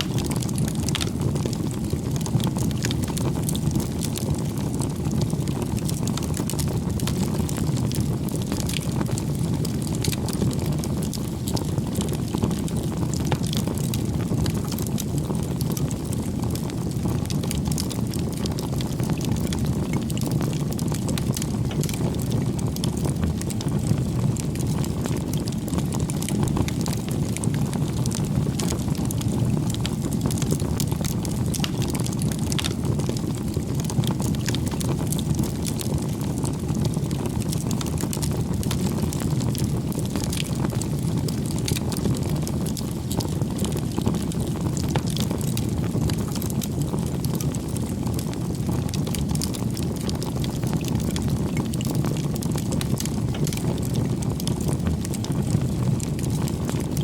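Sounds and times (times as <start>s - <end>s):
fire crackles and pops: 0.0s - 57.0s
low rush of flames: 0.0s - 57.0s.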